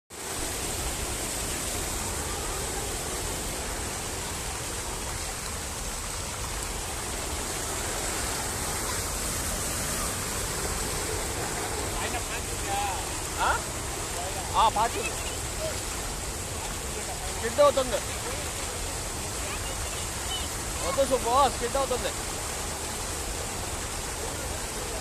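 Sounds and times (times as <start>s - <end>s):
water rushing over weir: 0.1s - 25.0s.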